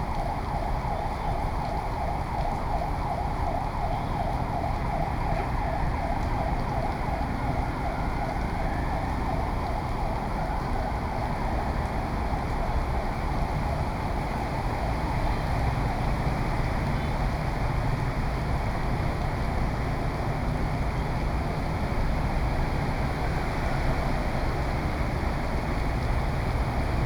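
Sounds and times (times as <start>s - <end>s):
heavy rain: 0.0s - 27.0s
street traffic: 0.0s - 27.0s
warbling emergency siren: 0.0s - 27.0s.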